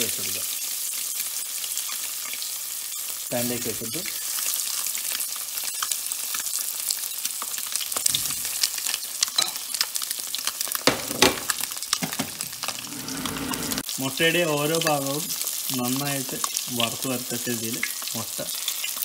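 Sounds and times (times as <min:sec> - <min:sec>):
eggs sizzling in hot oil: 0:00.0 - 0:19.0.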